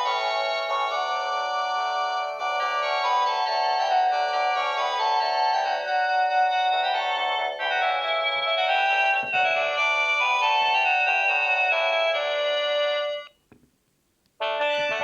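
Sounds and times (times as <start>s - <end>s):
cordless phone ringtone melody: 0.0s - 13.4s, 14.4s - 15.0s.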